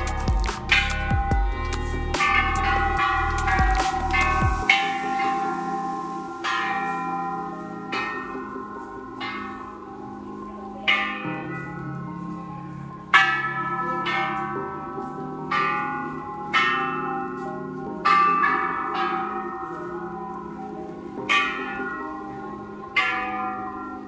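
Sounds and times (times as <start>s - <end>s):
temple bells struck: 0.0s - 24.0s.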